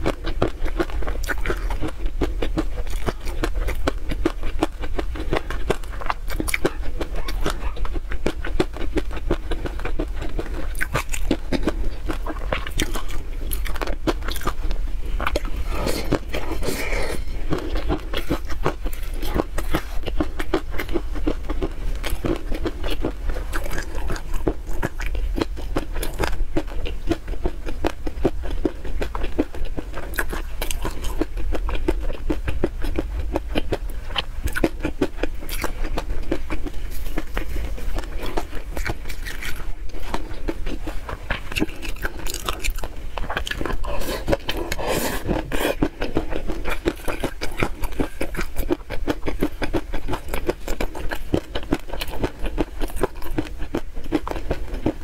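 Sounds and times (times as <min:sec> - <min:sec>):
steady low hum: 0:00.0 - 0:55.0
wet chewing sounds: 0:00.0 - 0:55.0.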